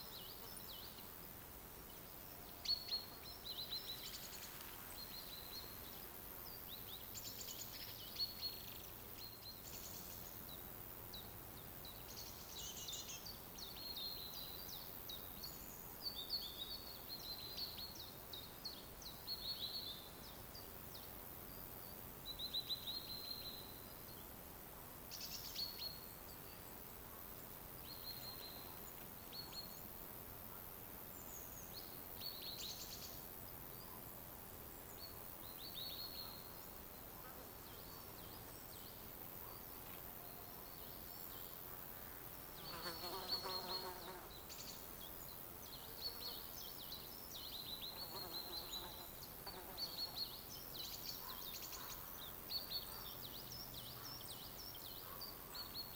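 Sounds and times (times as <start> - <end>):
faint steady hiss: 0.0 - 55.9
songbirds chirping and trilling: 0.0 - 55.9.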